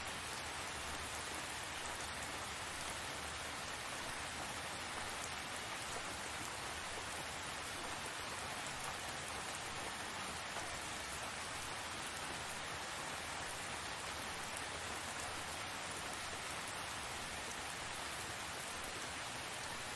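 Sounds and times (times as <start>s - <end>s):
rain pattering on surfaces: 0.0s - 19.9s.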